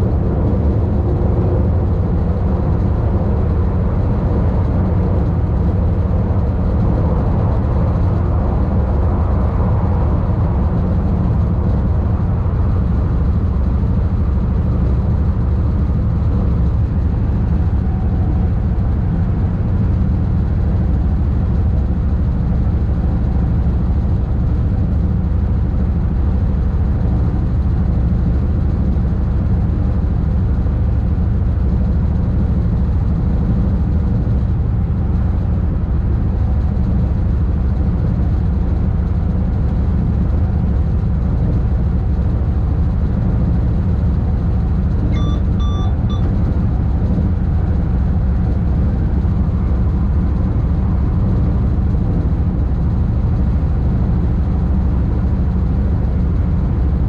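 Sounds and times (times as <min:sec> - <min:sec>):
train rumbling through tunnel: 0:00.0 - 0:57.0.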